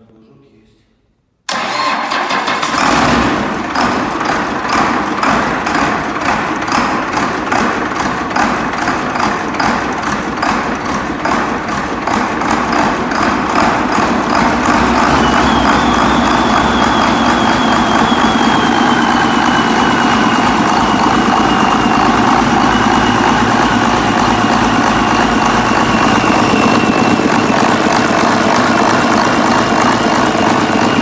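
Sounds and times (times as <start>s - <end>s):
diesel engine starting and clattering: 1.5s - 31.0s.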